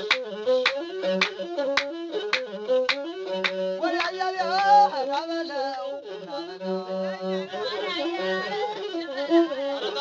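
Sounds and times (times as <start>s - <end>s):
bowed fiddle melody: 0.0s - 10.0s.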